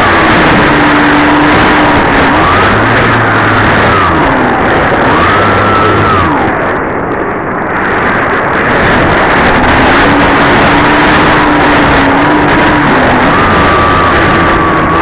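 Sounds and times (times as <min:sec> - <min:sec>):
electric motor whine: 0:00.0 - 0:06.8, 0:08.8 - 0:15.0
wind rush on microphone: 0:00.0 - 0:15.0.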